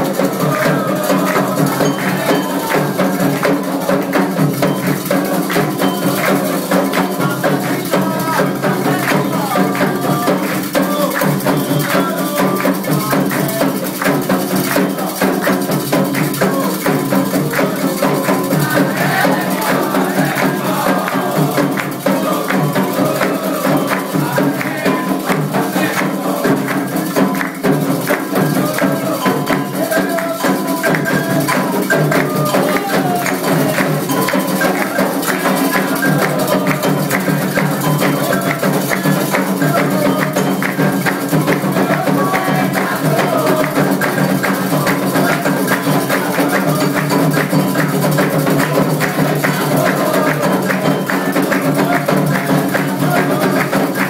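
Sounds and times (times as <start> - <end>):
rapid percussion: 0.0 - 54.0
rattles shaking: 0.0 - 54.0
voices singing: 0.0 - 54.0.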